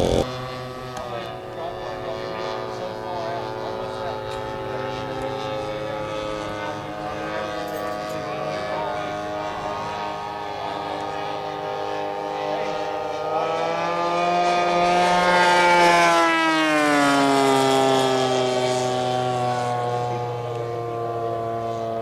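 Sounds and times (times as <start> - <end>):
model plane engine buzzing: 0.0 - 22.0.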